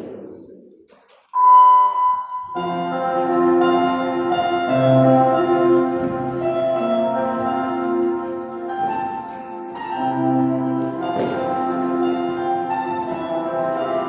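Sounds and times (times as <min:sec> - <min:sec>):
orchestral music: 0:02.2 - 0:14.0.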